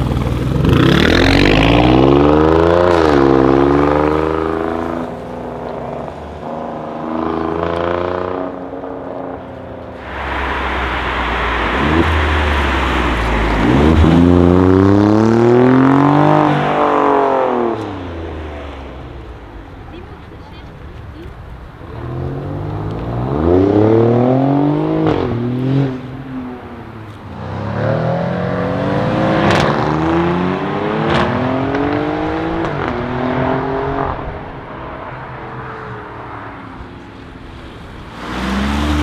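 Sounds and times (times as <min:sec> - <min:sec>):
car engine accelerating hard: 0:00.0 - 0:19.0, 0:21.8 - 0:35.4, 0:37.6 - 0:39.0.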